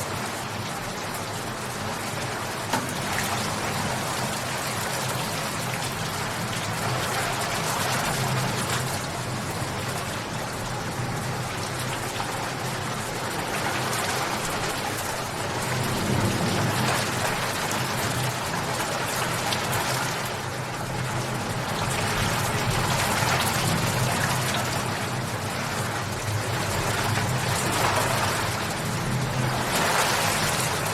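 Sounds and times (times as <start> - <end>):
rain pattering on a surface: 0.0 - 30.9.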